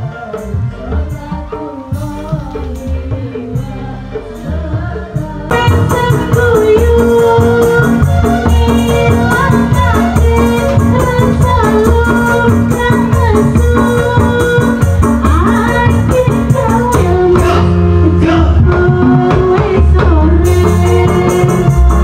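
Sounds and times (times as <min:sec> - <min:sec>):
fast even rattling rhythm: 0:00.0 - 0:22.0
loud amplified music: 0:00.0 - 0:22.0
woman singing into a microphone: 0:00.0 - 0:22.0.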